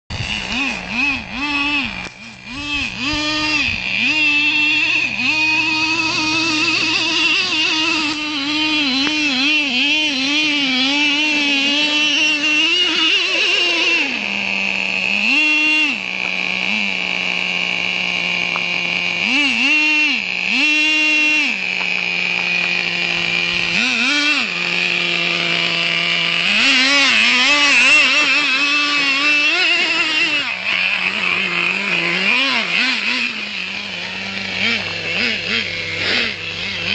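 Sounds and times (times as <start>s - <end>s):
toy truck engine revving: 0.1s - 36.9s.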